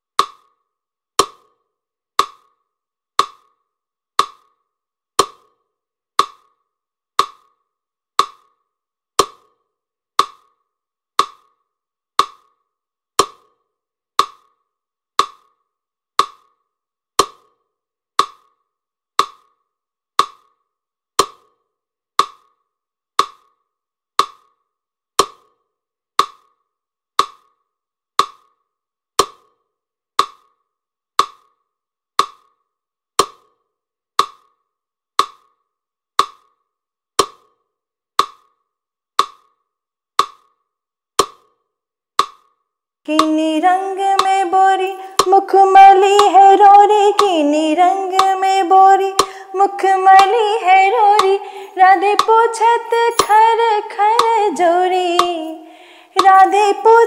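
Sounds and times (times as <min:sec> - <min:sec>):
wood-block clicks: 0:00.1 - 0:57.0.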